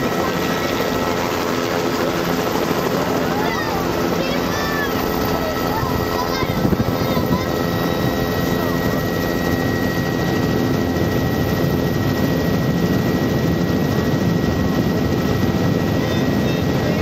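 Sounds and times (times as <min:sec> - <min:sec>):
helicopter rotor drone: 0:00.0 - 0:17.0
turbine engine high whine: 0:00.0 - 0:17.0.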